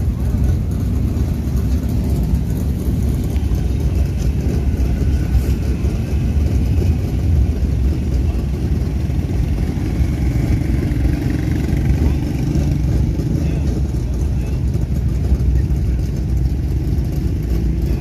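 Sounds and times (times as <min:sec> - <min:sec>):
vehicle engines rumbling: 0:00.0 - 0:18.0.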